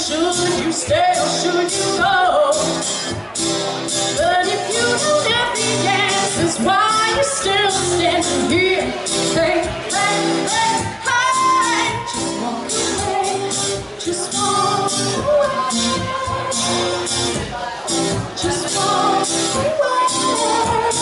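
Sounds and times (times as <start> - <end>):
woman singing pop-rock song: 0.0 - 3.2, 3.9 - 21.0
acoustic guitar: 0.0 - 21.0.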